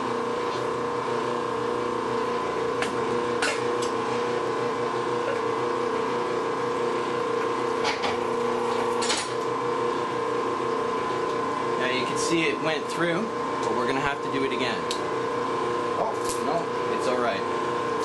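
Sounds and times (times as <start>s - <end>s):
wire stripping machine humming: 0.0s - 18.0s.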